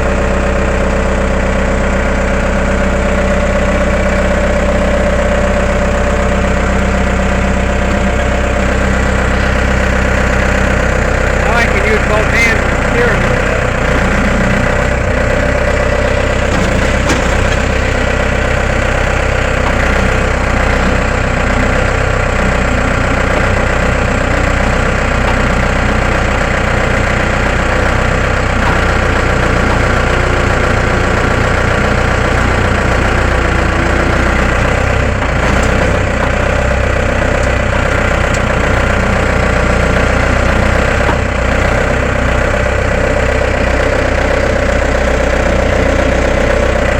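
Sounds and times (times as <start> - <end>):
skid steer engine idling: 0.0 - 46.9.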